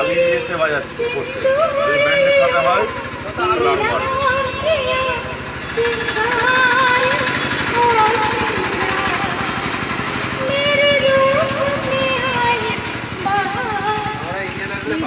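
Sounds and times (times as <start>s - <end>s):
woman singing: 0.0s - 9.8s, 10.4s - 14.3s
low pulsing engine rumble: 0.0s - 15.0s.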